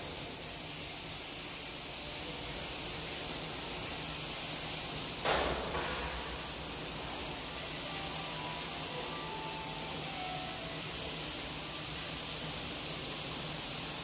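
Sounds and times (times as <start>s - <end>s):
welding arc hissing: 0.0s - 14.0s.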